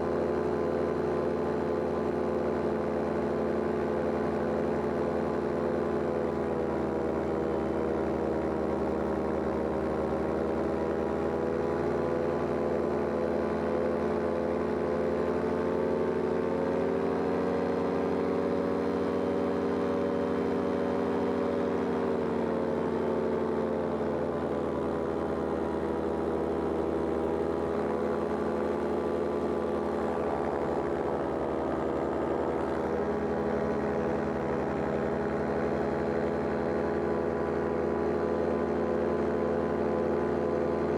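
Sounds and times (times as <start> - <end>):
paraglider engine and propeller: 0.0 - 40.9.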